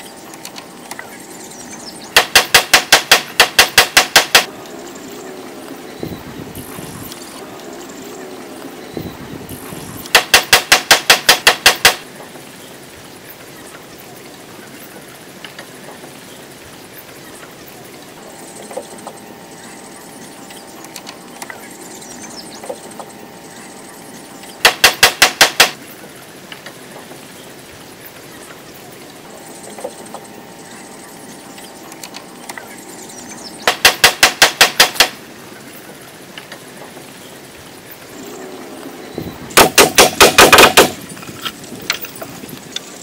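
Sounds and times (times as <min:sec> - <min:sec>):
outdoor background noise: 0:00.0 - 0:43.0.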